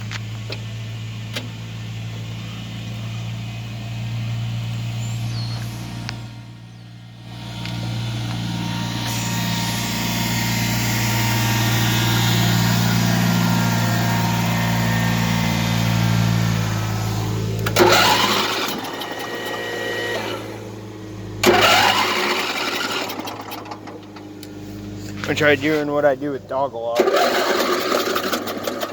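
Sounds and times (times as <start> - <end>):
small engine droning: 0.0 - 28.9.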